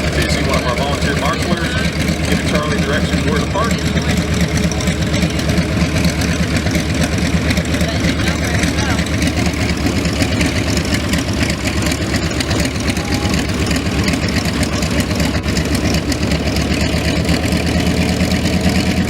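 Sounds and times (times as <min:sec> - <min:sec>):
radial aircraft engine idling: 0:00.0 - 0:19.0.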